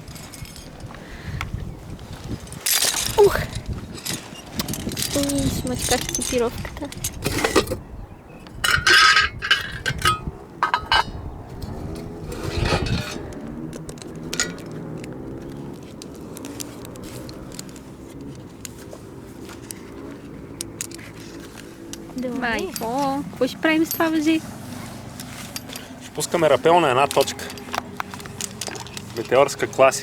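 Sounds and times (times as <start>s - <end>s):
rustle: 0.0s - 7.8s, 8.5s - 30.0s
metal climbing gear clinking: 0.0s - 30.0s.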